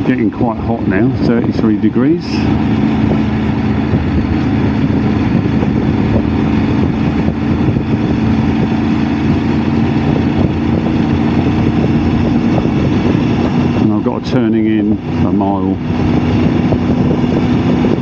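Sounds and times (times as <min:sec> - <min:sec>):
motorcycle engine running: 0:00.0 - 0:18.0
road noise: 0:00.0 - 0:18.0
wind noise: 0:00.0 - 0:18.0.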